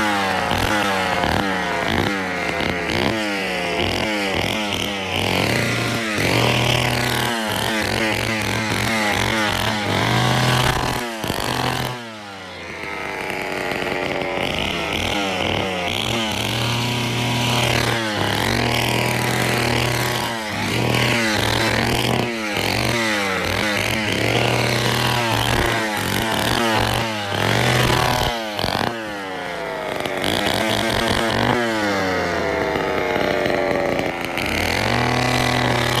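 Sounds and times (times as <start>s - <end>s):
chainsaw revving: 0.0s - 36.0s.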